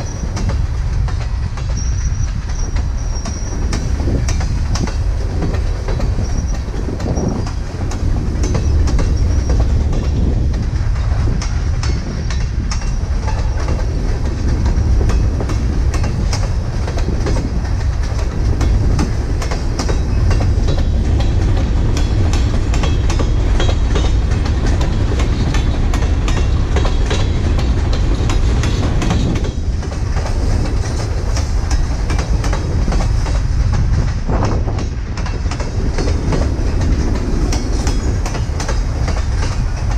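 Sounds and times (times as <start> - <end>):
train railcars rumbling past: 0.0 - 39.9
wheels clicking over rails: 0.0 - 39.9.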